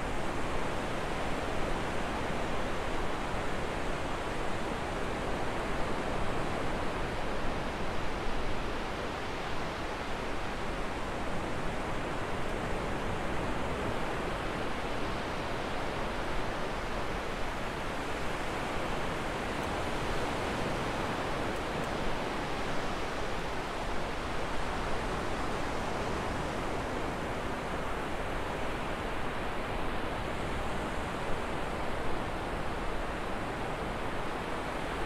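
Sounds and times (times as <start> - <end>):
ocean waves breaking on beach: 0.1 - 35.0.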